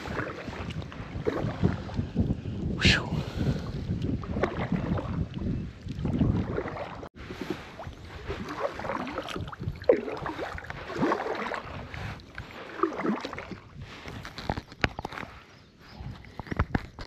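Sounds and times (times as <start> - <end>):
paddle splashing in water: 0.0 - 2.2, 3.5 - 15.5.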